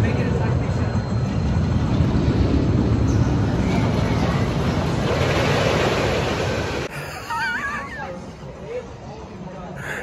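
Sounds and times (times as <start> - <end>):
roller coaster train rumbling: 0.0 - 9.6.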